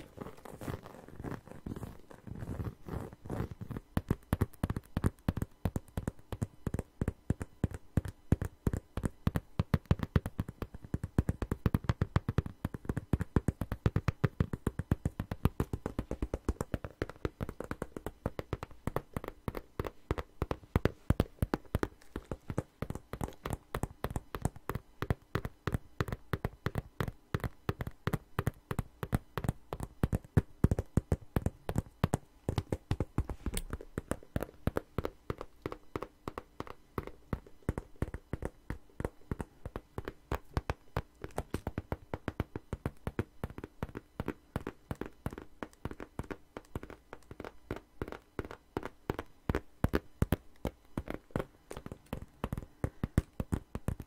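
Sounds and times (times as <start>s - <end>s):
fingertip tapping on a wallet: 0.8s - 54.0s.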